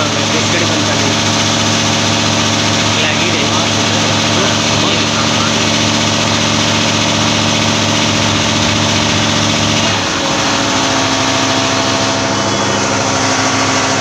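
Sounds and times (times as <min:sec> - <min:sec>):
compressor electrical hum: 0:00.0 - 0:14.0.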